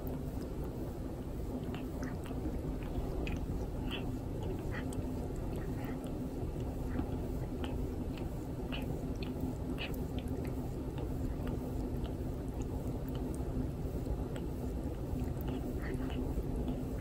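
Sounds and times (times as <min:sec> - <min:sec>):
cat licking rasping: 0:00.0 - 0:17.0.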